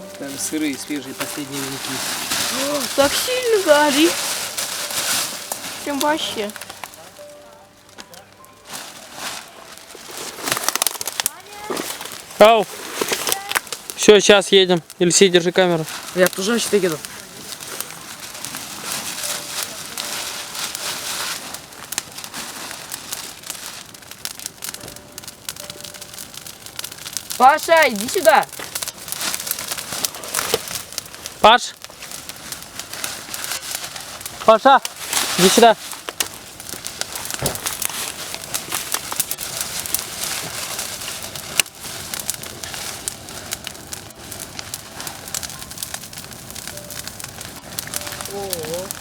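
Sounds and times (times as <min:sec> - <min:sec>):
bonfire crackling and popping: 0:00.0 - 0:49.0
fire hiss: 0:00.0 - 0:49.0.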